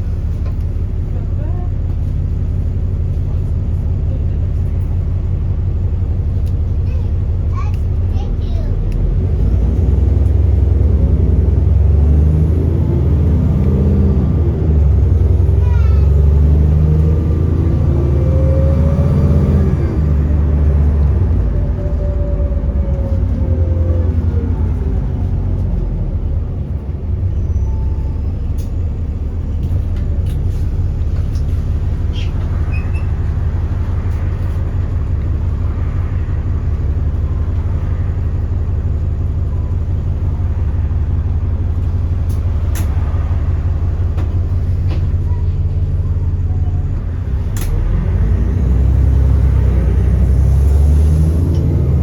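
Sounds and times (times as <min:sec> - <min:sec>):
bus engine drone: 0:00.0 - 0:52.0.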